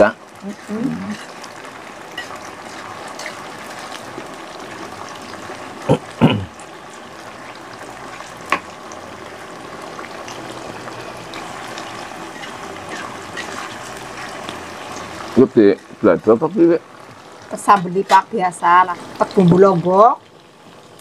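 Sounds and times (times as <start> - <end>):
potatoes sizzling in a wok: 0.0 - 21.0.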